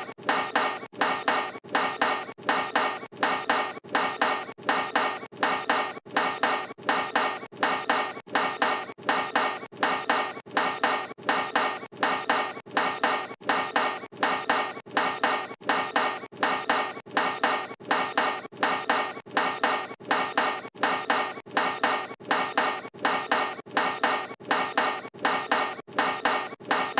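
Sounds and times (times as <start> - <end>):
basketball clanging off rim: 0.2 - 26.9.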